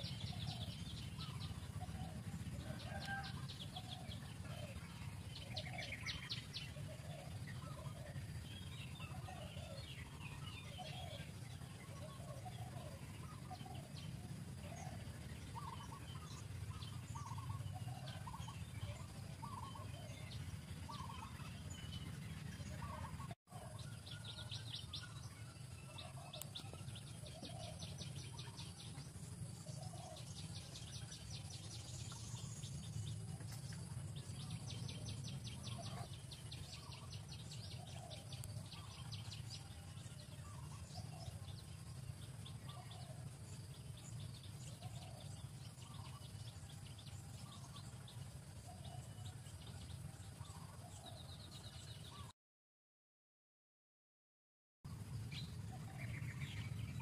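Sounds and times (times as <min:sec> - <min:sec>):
birds calling: 0:00.0 - 0:52.3
steady low rumble: 0:00.0 - 0:52.3.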